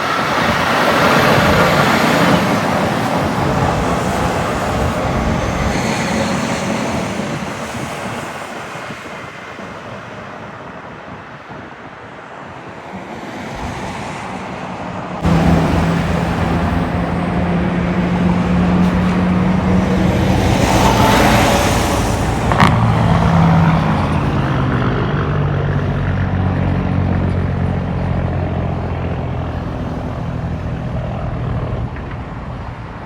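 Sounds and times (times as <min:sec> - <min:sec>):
steady engine drone: 0:00.0 - 0:08.8, 0:13.5 - 0:33.0
vehicles passing by: 0:00.0 - 0:33.0.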